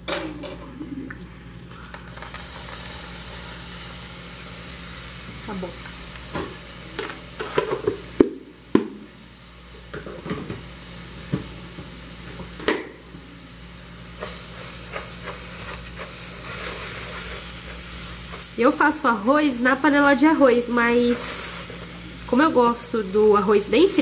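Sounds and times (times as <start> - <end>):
rice and leek sizzling in oil: 1.5 - 24.0.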